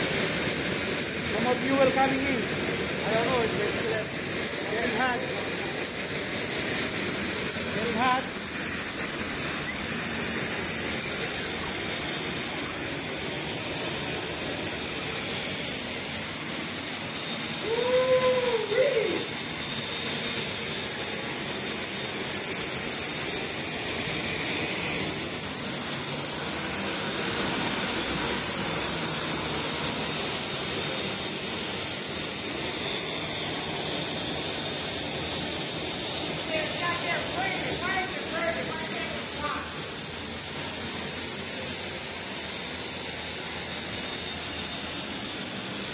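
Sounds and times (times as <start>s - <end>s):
model turbine engine whine: 0.0s - 45.9s.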